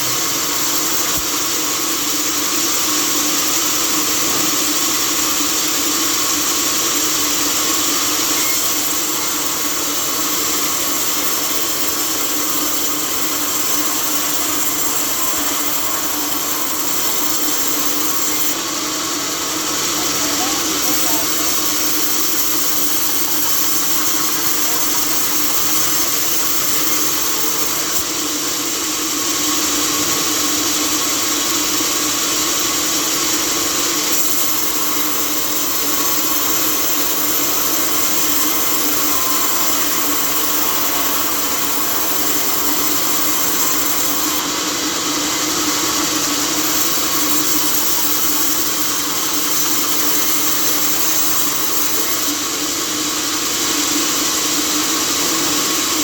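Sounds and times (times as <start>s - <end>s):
saw blade cutting log: 0.0s - 2.3s, 3.9s - 18.6s, 19.2s - 28.2s, 33.4s - 52.4s.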